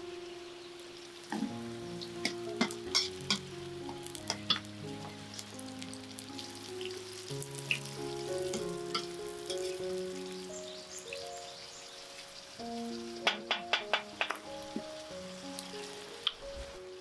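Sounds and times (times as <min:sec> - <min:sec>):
food sizzling in a pan: 0:00.0 - 0:17.0
soft instrumental music: 0:00.0 - 0:17.0.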